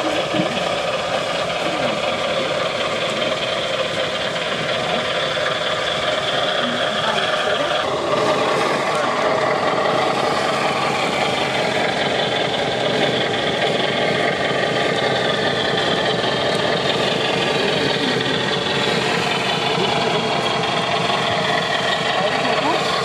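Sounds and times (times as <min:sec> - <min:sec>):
toy truck motor whining: 0:00.0 - 0:23.0.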